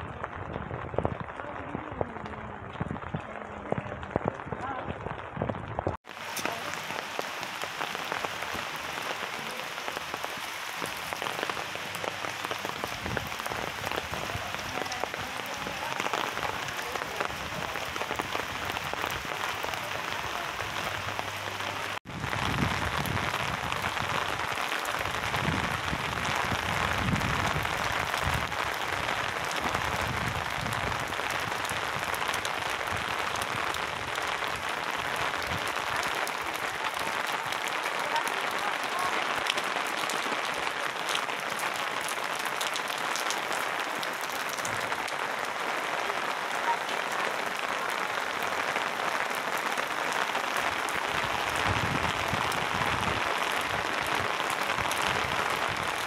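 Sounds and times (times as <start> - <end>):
rain on wet pavement: 0.0 - 56.0.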